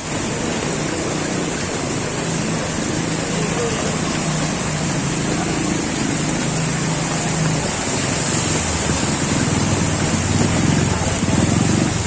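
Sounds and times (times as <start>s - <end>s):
rain hissing: 0.0s - 12.0s
rushing water: 0.0s - 12.0s
vehicle engine running: 0.0s - 12.0s.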